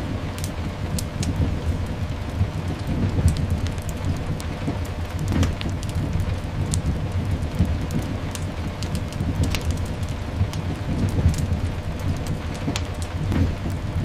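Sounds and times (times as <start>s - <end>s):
continuous low rumble: 0.0s - 14.0s
fireplace crackling pops: 0.0s - 14.0s
steady rain: 0.0s - 14.0s.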